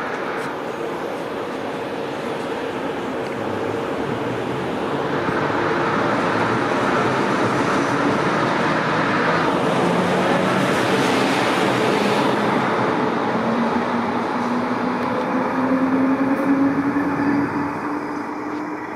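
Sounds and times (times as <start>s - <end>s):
electric locomotive hum: 0.0s - 18.9s
train wheels on rail: 0.0s - 18.9s.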